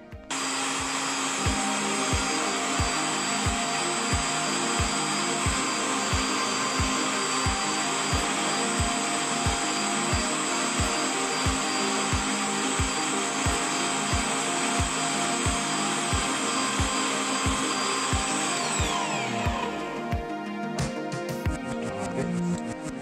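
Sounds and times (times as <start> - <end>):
background music with low beat: 0.0 - 23.0
electric meat grinder motor running: 0.3 - 19.8.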